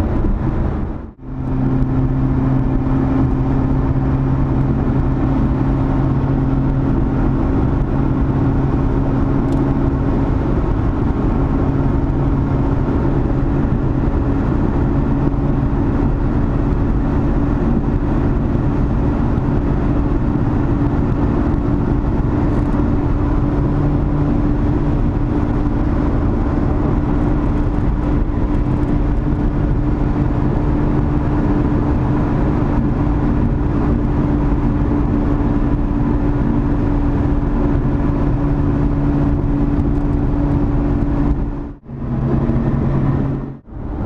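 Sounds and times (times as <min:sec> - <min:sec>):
car engine drone in cabin: 0:00.0 - 0:44.0.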